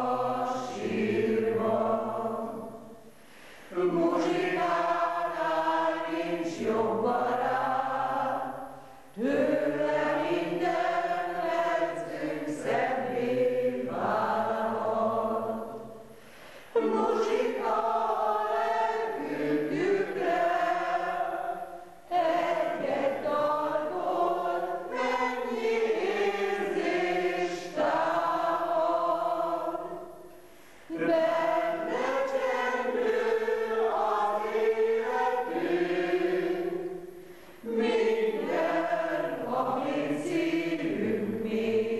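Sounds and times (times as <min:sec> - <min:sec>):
mixed choir singing: 0:00.0 - 0:30.3, 0:30.9 - 0:41.9.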